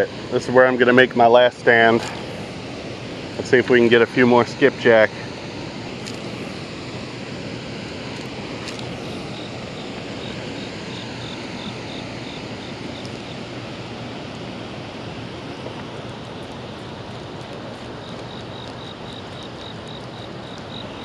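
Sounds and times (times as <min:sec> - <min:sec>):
churning water rushing: 0:00.0 - 0:21.0.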